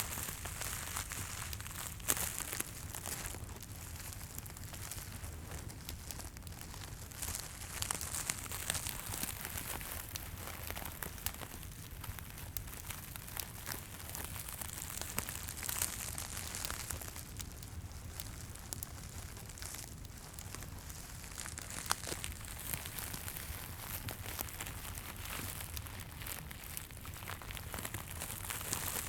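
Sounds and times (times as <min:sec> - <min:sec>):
material crinkling and rustling: 0:00.0 - 0:29.0.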